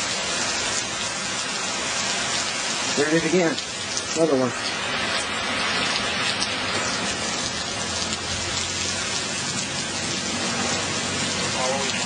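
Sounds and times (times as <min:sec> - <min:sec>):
heavy rain with hail: 0:00.0 - 0:12.0.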